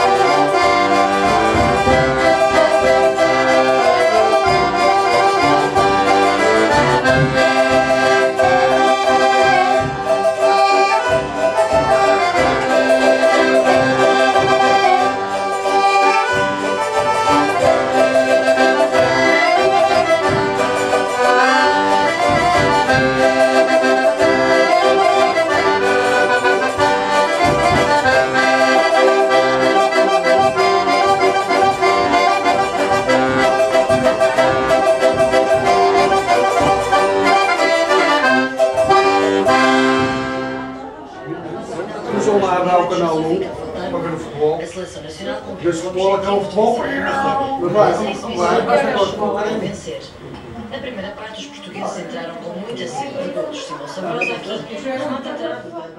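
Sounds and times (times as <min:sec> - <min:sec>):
accordion folk tune: 0:00.0 - 0:55.9.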